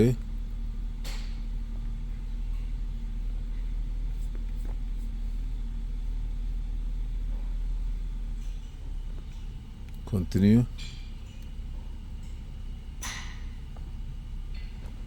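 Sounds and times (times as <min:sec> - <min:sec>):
car engine idling: 0:00.0 - 0:15.0
faint steady hum: 0:00.0 - 0:15.0.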